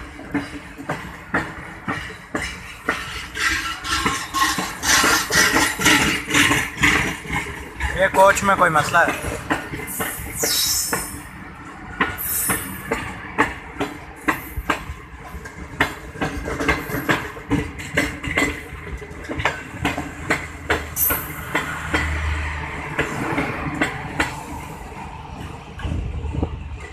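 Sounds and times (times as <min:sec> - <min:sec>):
train wheels rumbling on rail: 0:00.0 - 0:26.9
wheels clicking over rail joints: 0:00.0 - 0:26.9.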